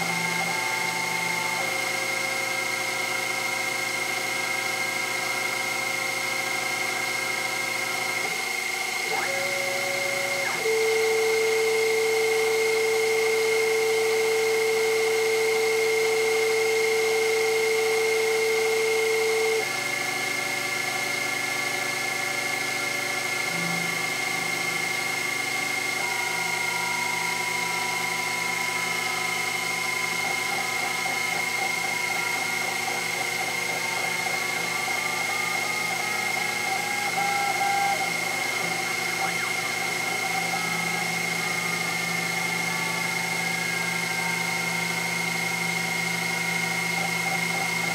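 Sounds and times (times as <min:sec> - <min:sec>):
milling machine high whine: 0:00.0 - 0:47.9
motor tones gliding in pitch: 0:00.0 - 0:47.9.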